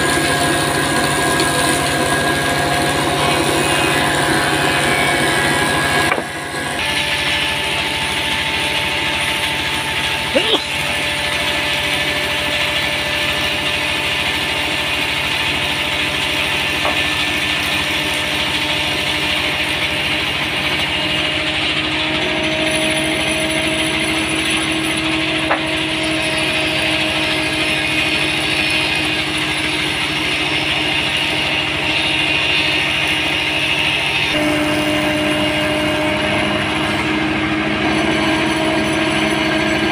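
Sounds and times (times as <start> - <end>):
thickness planer cutting wood: 0.0 - 39.9.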